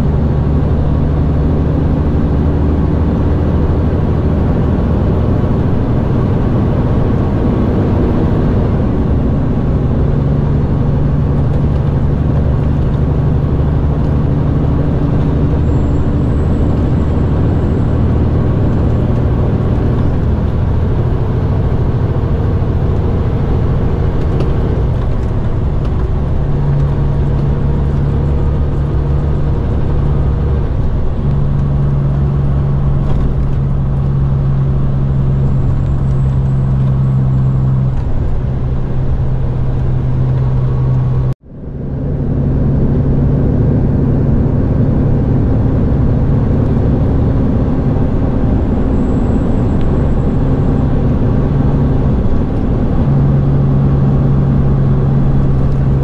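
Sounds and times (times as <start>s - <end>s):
diesel engine droning: 0.0s - 56.0s
road and tyre noise: 0.0s - 56.0s.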